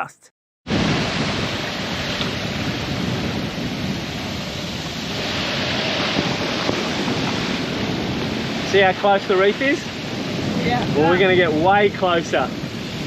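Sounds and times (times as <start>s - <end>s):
sea water rushing: 0.7s - 13.0s
wind buffeting microphone: 0.7s - 13.0s.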